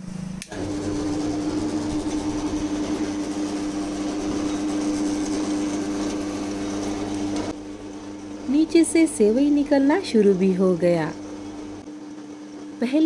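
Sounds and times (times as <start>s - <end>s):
extruder machine humming: 0.0s - 13.0s.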